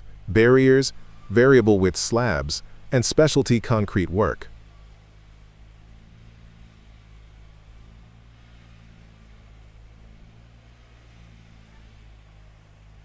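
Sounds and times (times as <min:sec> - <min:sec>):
paving machinery engine hum: 0:00.0 - 0:13.0.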